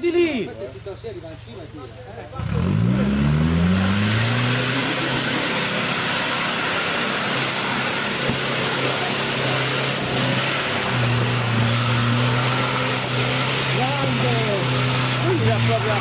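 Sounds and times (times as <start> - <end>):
suv engine pulling under load: 2.4 - 16.0.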